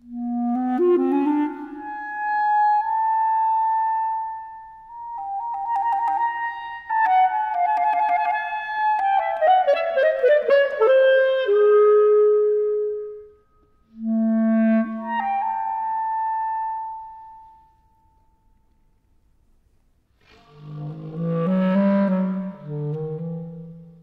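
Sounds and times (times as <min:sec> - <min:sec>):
solo clarinet: 0:00.0 - 0:18.7, 0:20.2 - 0:24.0.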